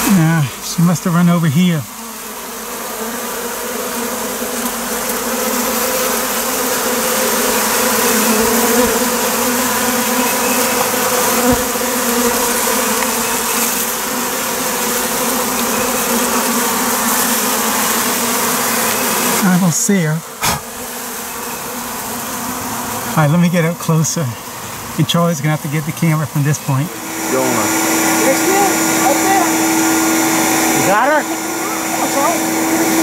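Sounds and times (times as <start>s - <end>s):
honey bees buzzing: 0.0s - 33.0s.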